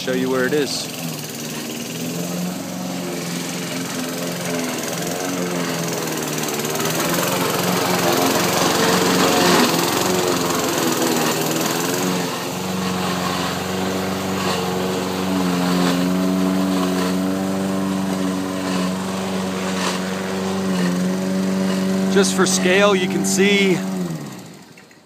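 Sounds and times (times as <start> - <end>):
honeybee swarm buzzing: 0.9 - 24.6.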